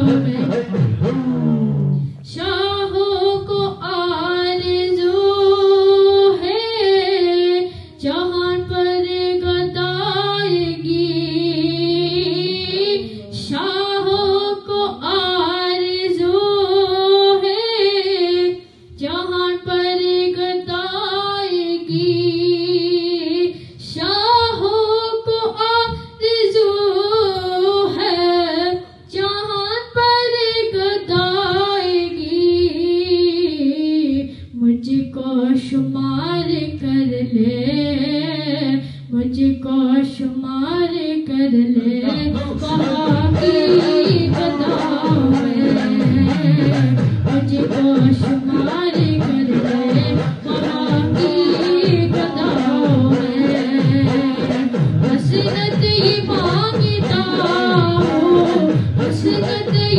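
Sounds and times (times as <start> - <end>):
high voice singing unaccompanied: 0.0 - 0.8, 2.3 - 59.9.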